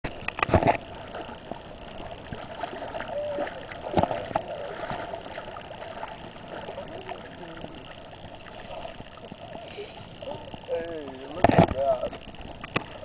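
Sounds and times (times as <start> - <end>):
water splash: 0.0 - 10.5
seawater sloshing around waders: 0.1 - 13.0.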